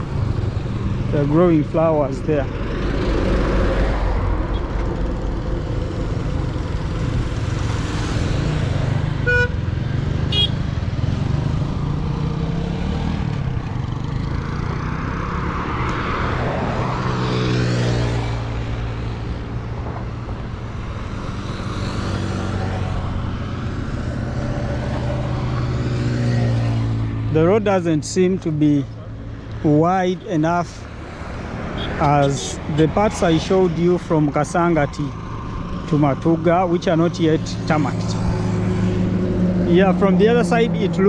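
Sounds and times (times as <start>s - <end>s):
road and traffic noise: 0.0s - 41.0s.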